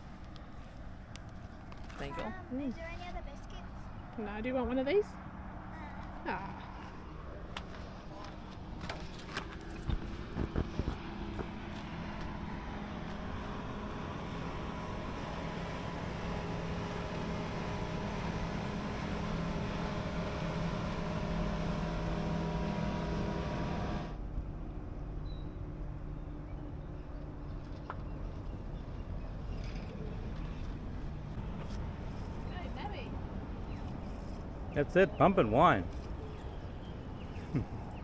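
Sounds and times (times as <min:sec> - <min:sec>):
engine running steadily: 0:00.0 - 0:38.0.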